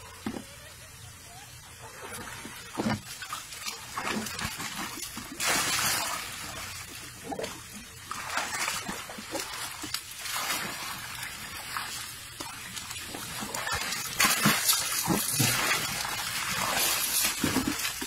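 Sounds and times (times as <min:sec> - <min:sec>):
water splashing into a tub: 0:02.0 - 0:18.0.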